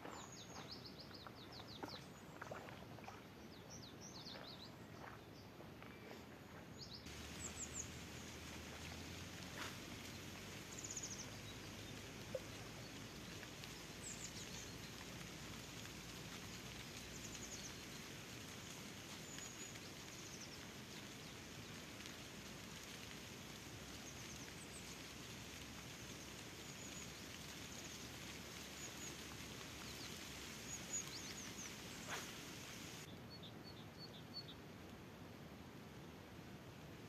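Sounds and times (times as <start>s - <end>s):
small birds chirping: 0.0s - 34.6s
steady outdoor hiss: 0.0s - 37.0s.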